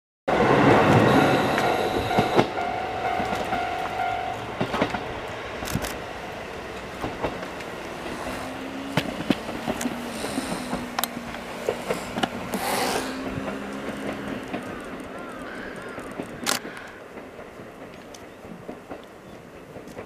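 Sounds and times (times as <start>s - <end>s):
diesel railcar engine running: 0.3s - 20.0s
wheels clicking over rail joints: 0.3s - 20.0s.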